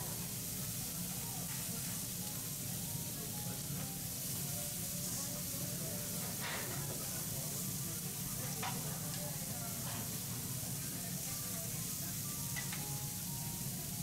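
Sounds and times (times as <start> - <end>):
food sizzling on a griddle: 0.0 - 14.0.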